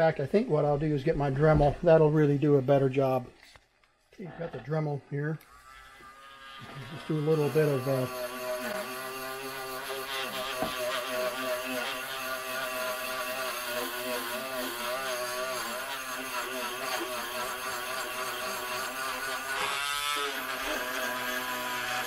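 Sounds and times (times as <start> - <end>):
rotary tool motor whine: 1.4 - 22.0.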